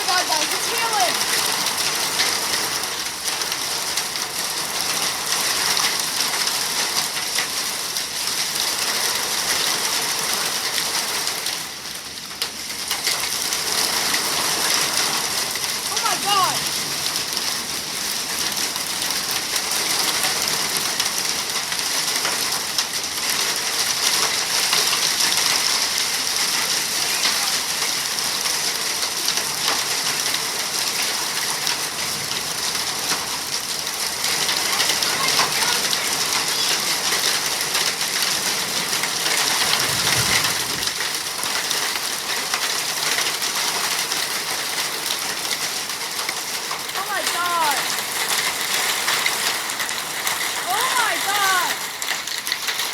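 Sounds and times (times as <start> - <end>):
hailstones clicking on surfaces: 0.0 - 52.9
rain and hail downpour: 0.0 - 52.9.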